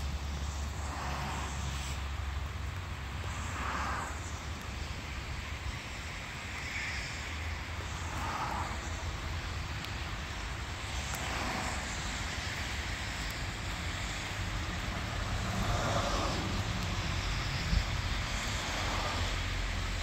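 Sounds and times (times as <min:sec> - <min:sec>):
distant traffic: 0:00.0 - 0:20.0
steady low rumble: 0:00.0 - 0:20.0.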